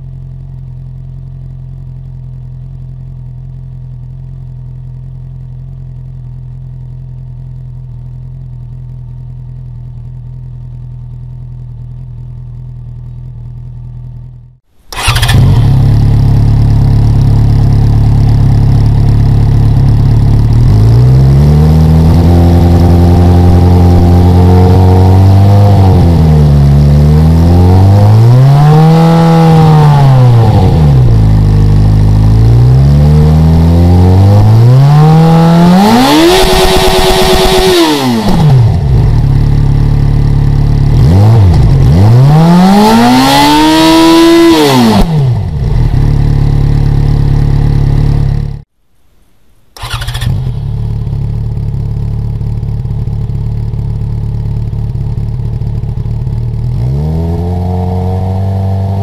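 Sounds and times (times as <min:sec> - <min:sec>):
motorcycle engine revving and idling: 0:00.0 - 0:48.7, 0:49.7 - 0:59.0.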